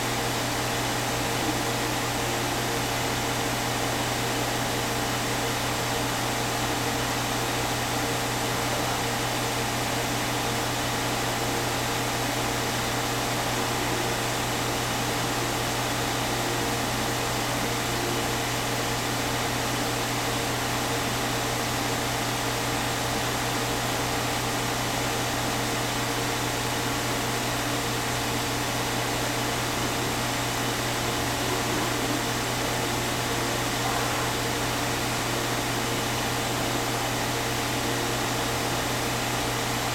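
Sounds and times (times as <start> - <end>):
aquarium pump humming and hissing: 0.0 - 39.9.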